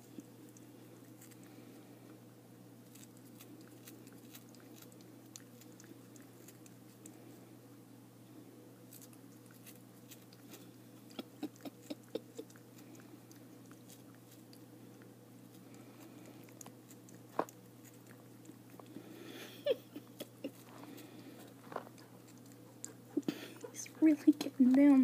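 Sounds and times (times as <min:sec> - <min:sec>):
cat chewing with wet clicks: 0:00.0 - 0:02.2, 0:02.8 - 0:07.4, 0:08.8 - 0:19.3, 0:20.0 - 0:24.6
faint low hum: 0:00.0 - 0:25.0.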